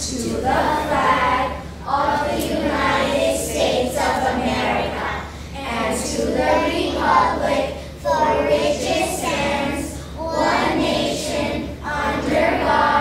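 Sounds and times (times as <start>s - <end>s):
children's voices in unison: 0.0s - 13.0s.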